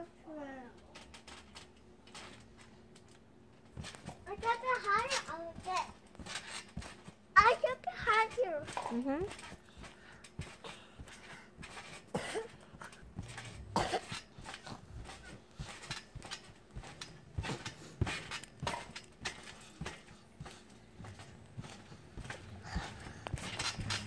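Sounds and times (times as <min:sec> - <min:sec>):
feet thumping on trampoline: 0:03.6 - 0:24.0.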